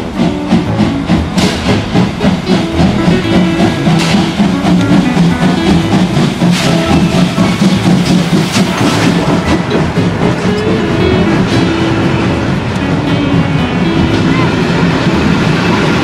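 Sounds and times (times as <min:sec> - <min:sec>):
music with low notes: 0:00.0 - 0:16.0
steam train rolling past: 0:00.0 - 0:16.0.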